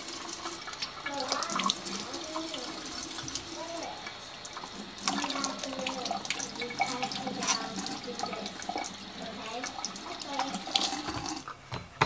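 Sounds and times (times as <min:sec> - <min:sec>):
water running from tap: 0:00.0 - 0:11.6.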